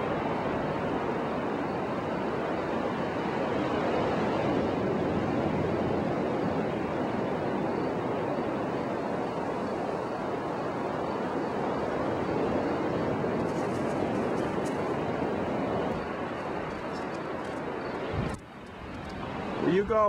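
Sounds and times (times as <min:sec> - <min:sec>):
ocean surf breaking: 0:00.0 - 0:18.6.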